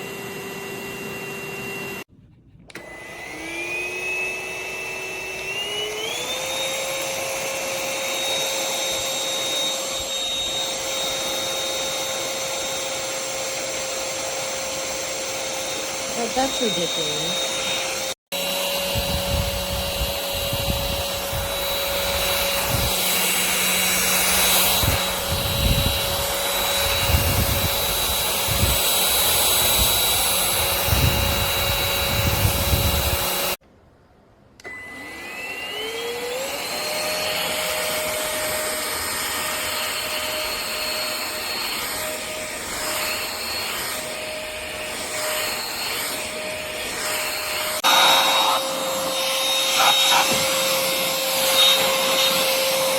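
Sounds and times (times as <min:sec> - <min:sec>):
stick vacuum whining: 0:00.0 - 0:33.6, 0:34.6 - 0:52.9.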